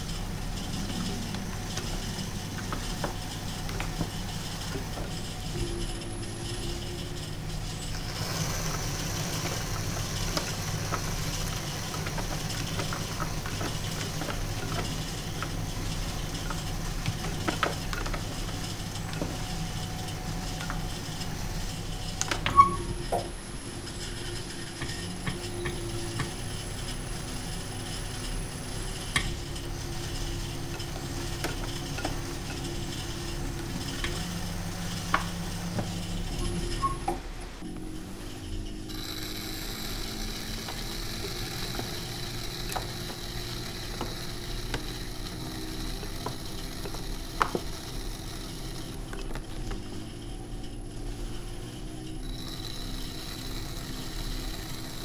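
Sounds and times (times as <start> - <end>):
potter's wheel hum: 0.0 - 55.0.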